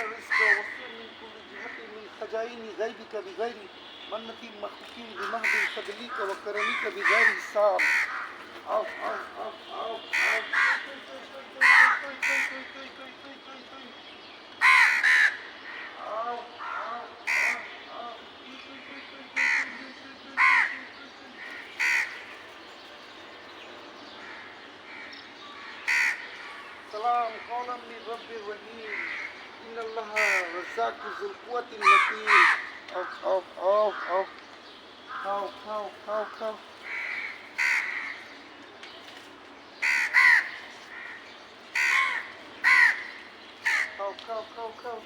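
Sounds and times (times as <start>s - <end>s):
crows cawing: 0.0s - 13.0s, 14.6s - 22.6s, 24.1s - 38.5s, 39.8s - 45.0s.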